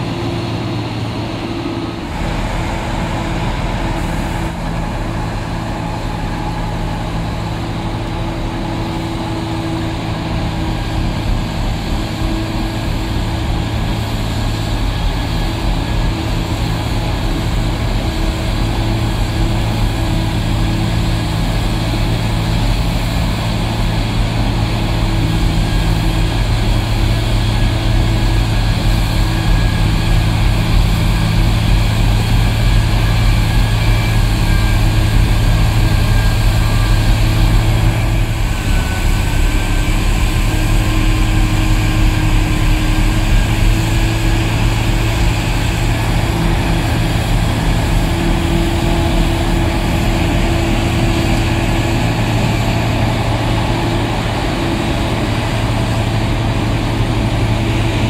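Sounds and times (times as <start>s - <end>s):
diesel engine running: 0.0s - 58.0s
snow blower throwing snow: 2.0s - 58.0s.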